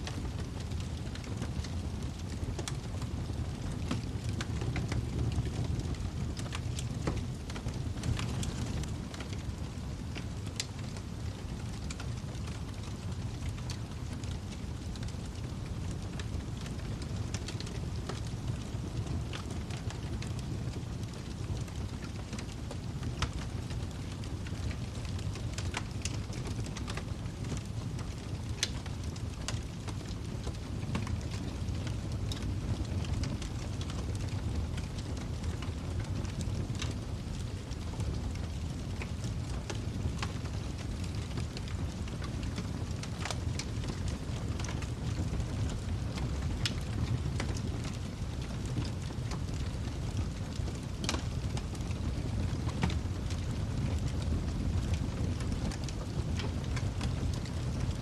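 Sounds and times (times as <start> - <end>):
wood fire burning with pops: 0.0 - 58.0.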